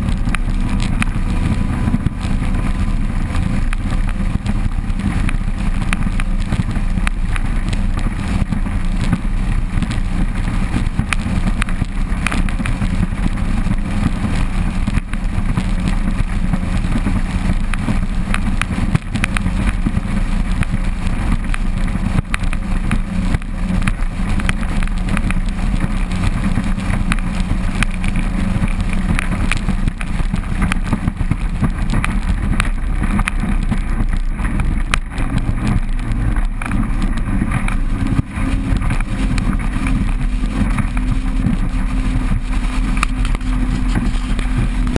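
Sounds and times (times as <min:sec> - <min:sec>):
outboard motor droning: 0:00.0 - 0:44.9
water against the hull: 0:00.0 - 0:44.9.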